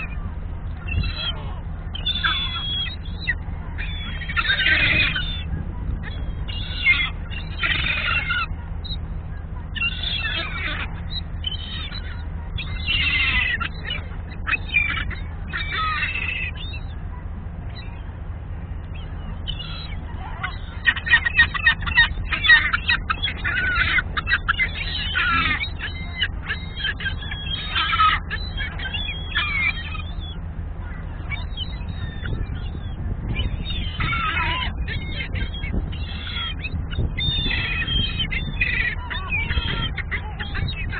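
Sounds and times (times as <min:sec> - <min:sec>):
gulls calling: 0:00.0 - 0:40.9
steady low hum: 0:00.0 - 0:40.9.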